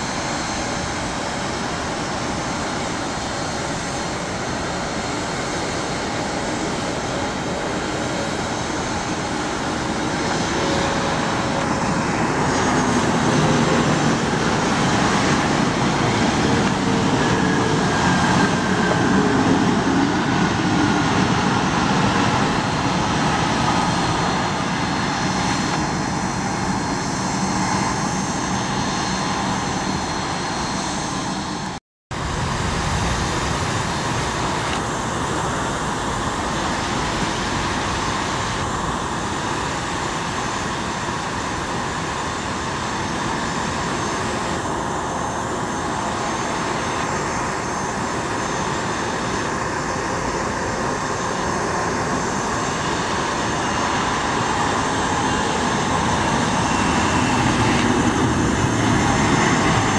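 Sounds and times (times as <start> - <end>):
jet engine whine gliding downward: 0.0 - 59.9
jet engines rushing: 0.0 - 59.9.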